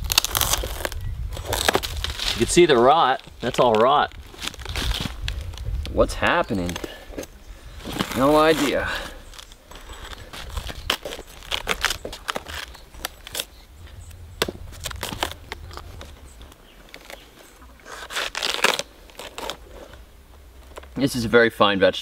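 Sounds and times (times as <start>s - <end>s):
palm fibre tearing and snapping: 0.0s - 21.0s.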